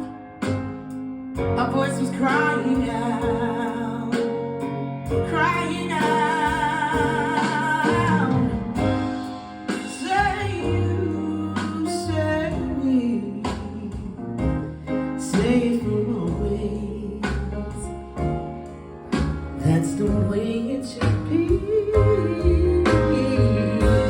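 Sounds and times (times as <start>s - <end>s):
bass and instrumental backing: 0.0s - 24.0s.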